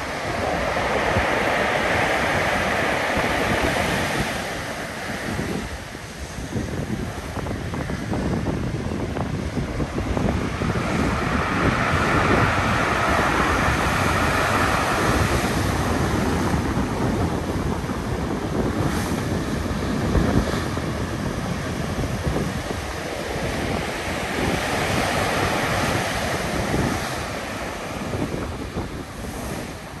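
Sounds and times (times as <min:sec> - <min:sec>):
heavy waves breaking on beach: 0:00.0 - 0:30.0
wind buffeting microphone: 0:00.0 - 0:30.0.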